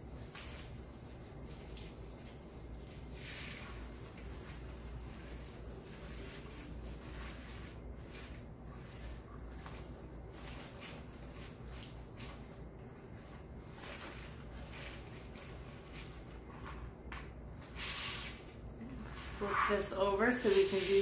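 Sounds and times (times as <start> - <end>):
low steady hum: 0.0 - 21.0
ribbon and mesh crinkling: 0.0 - 21.0.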